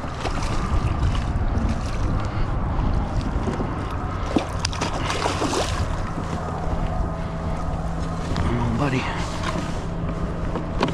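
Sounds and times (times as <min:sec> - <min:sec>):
water sloshing against kayak hull: 0:00.0 - 0:10.9
wind rumbling on microphone: 0:00.0 - 0:10.9.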